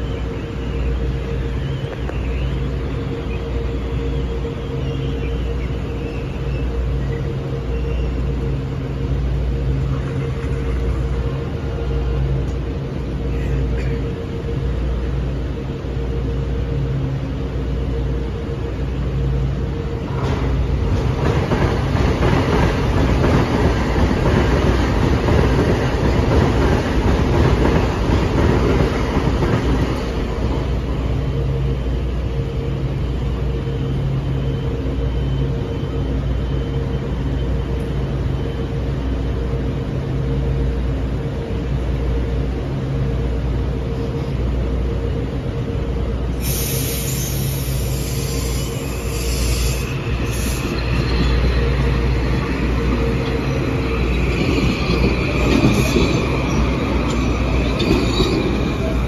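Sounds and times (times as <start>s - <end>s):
train equipment humming: 0.0s - 59.0s.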